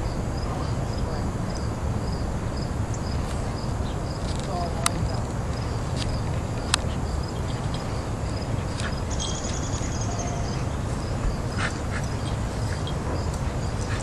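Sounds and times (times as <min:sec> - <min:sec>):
insect chirping: 0:00.0 - 0:14.0
low rumble: 0:00.0 - 0:14.0.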